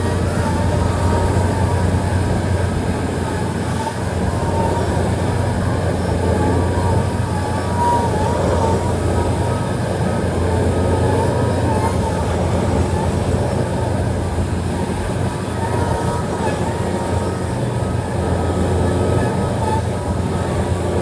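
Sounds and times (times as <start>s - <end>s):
warbling high whine: 0.0s - 21.0s.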